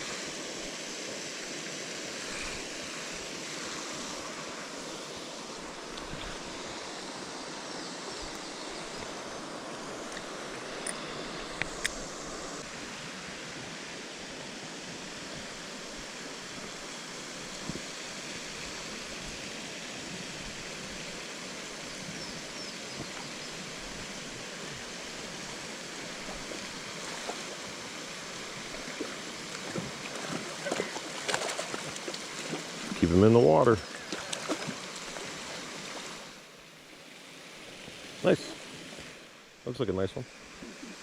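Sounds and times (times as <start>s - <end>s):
river water over rocks: 0.0s - 41.0s.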